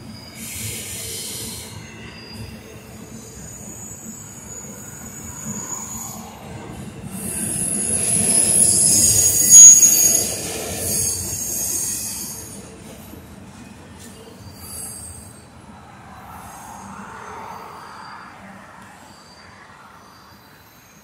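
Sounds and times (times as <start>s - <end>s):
train wheels squealing: 0.0s - 21.0s.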